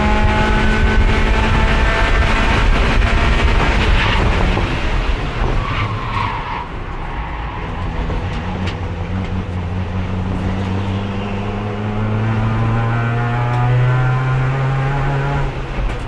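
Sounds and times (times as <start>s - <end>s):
race car engine: 0.0s - 16.0s.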